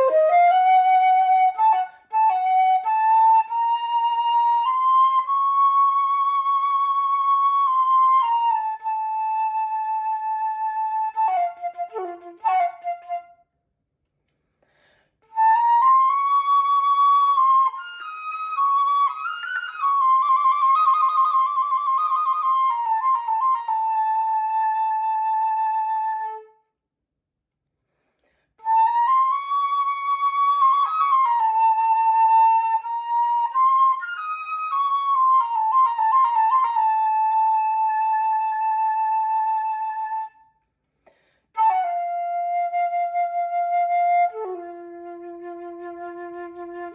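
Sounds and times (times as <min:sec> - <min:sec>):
solo flute playing: 0:00.0 - 0:13.6, 0:15.2 - 0:26.7, 0:28.6 - 0:40.7, 0:41.5 - 0:46.9.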